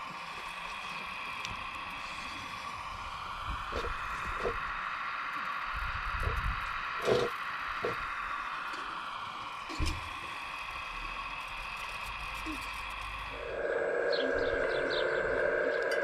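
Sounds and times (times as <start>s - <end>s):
hydraulic pump whining: 1.0s - 4.9s, 5.7s - 16.0s.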